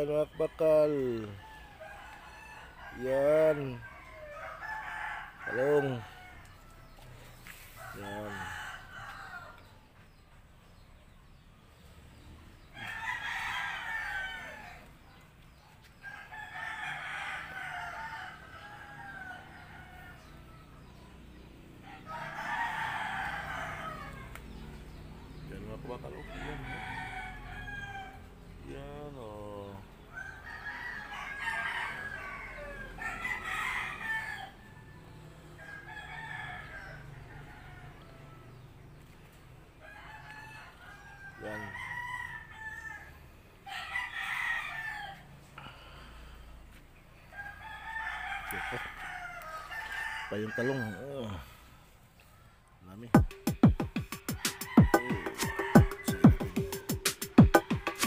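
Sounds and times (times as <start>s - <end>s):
roosters crowing: 0.0s - 10.2s, 12.1s - 58.0s.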